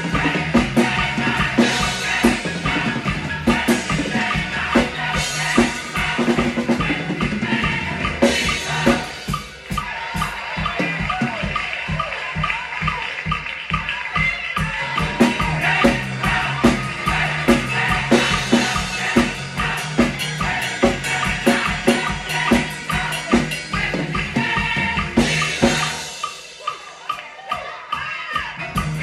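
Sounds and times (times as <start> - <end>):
drum kit playing groove: 0.0 - 29.0
gospel song recording: 0.0 - 29.0.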